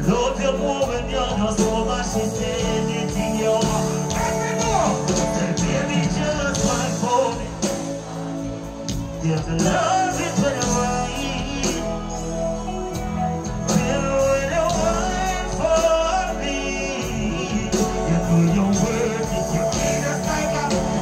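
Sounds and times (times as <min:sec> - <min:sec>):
man singing into microphone: 0:00.0 - 0:07.9, 0:09.2 - 0:21.0
loud music: 0:00.0 - 0:21.0.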